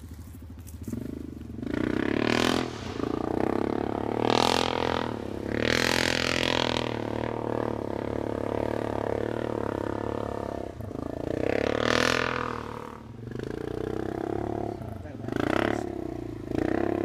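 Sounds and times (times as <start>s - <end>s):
atv engine running hard: 0.0s - 17.0s.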